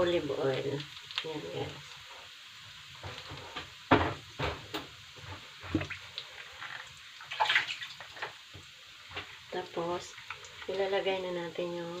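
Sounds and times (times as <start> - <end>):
garlic frying and spattering: 0.0 - 12.0.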